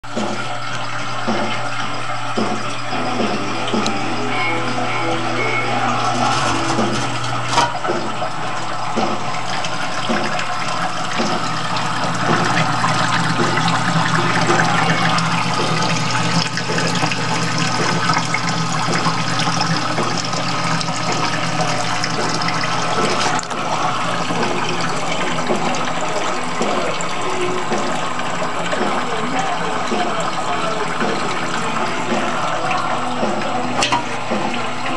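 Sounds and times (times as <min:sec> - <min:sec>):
water splashing into tank: 0:00.0 - 0:34.9.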